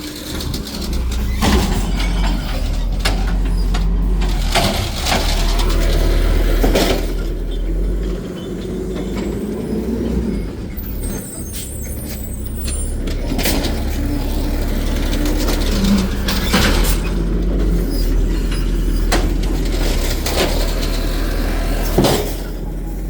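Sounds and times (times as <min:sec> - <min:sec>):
garbage truck engine rumbling: 0:00.0 - 0:23.0.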